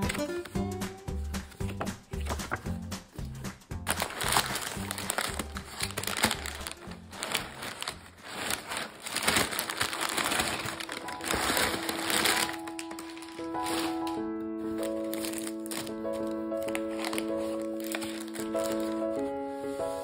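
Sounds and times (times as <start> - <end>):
background music: 0.0 - 20.0
packing paper crinkling: 3.9 - 20.0.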